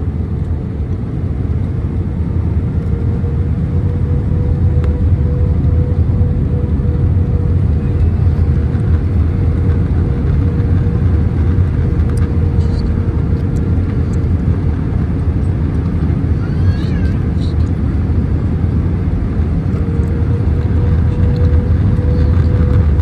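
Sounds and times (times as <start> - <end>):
airliner engines rumbling in cabin: 0.0 - 23.0
faint steady hum: 0.0 - 23.0.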